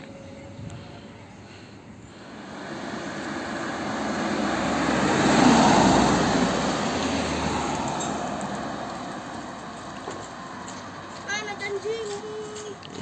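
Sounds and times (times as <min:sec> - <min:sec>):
minibus driving past: 0:00.0 - 0:13.0.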